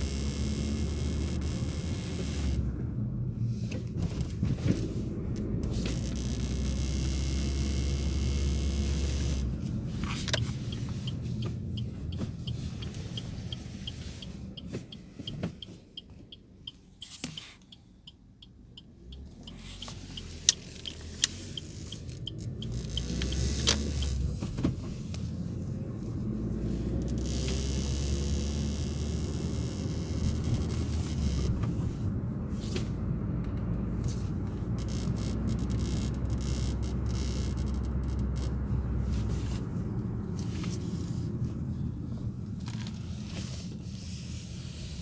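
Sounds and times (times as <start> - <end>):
vehicle cabin rumble: 0.0 - 45.0.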